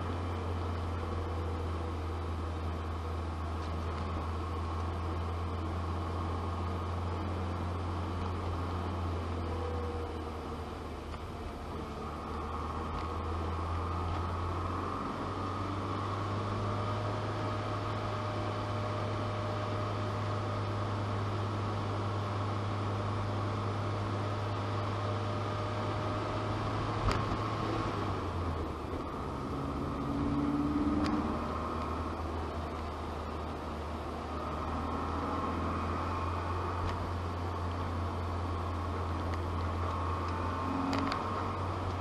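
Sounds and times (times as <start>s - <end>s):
car engine droning in cabin: 0.0s - 42.0s.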